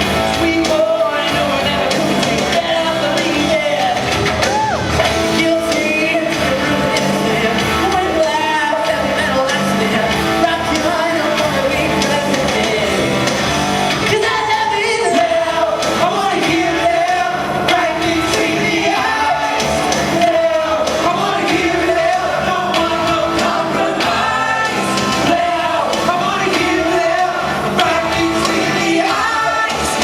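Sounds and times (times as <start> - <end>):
rock music with singer: 0.0 - 30.0.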